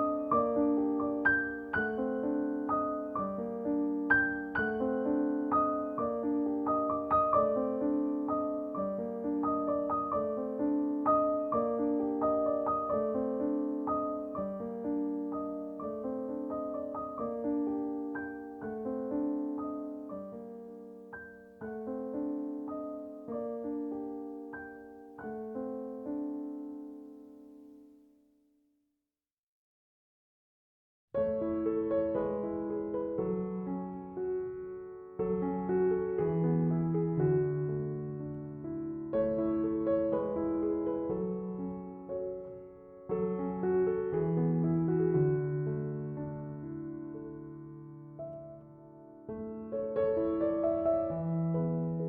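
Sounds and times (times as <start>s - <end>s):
slow gentle piano piece: 0.0s - 28.2s, 31.2s - 52.0s.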